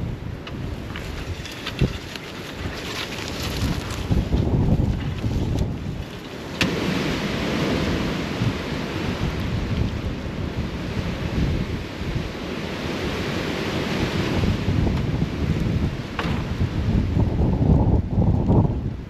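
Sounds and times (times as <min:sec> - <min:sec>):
storm wind gusting: 0:00.0 - 0:19.0
wind buffeting on microphone: 0:00.0 - 0:19.0.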